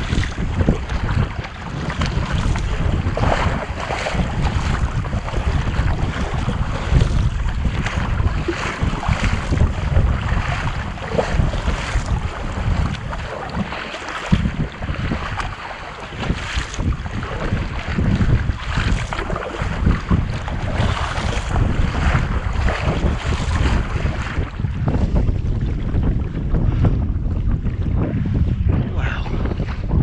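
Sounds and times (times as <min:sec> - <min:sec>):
paddles splashing water: 0:00.0 - 0:27.0
wind buffeting microphone: 0:00.0 - 0:30.0.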